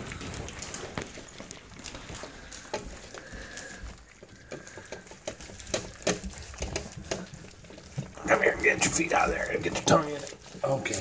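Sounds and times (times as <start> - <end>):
puppies lapping and slurping: 0.0 - 11.0.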